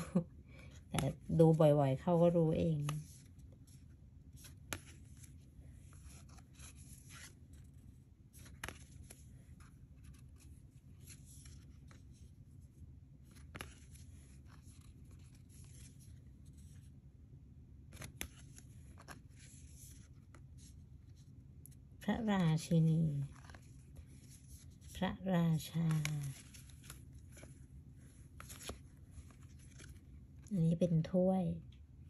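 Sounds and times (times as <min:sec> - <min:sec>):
cards rustling on cloth: 0:00.0 - 0:17.0, 0:17.8 - 0:31.1.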